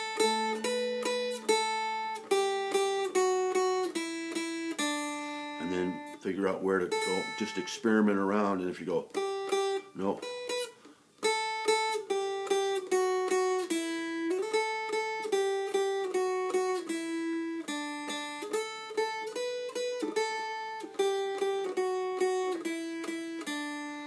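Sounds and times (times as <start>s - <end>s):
mountain dulcimer melody: 0.0s - 7.8s, 9.2s - 24.0s.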